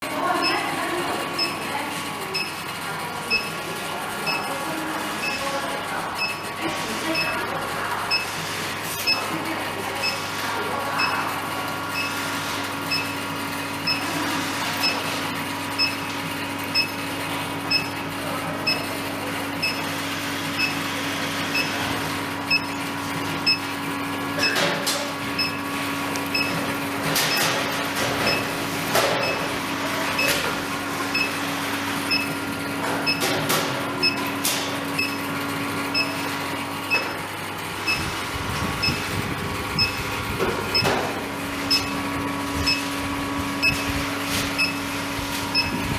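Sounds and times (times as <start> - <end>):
furnace electrical hum: 0.0 - 45.9.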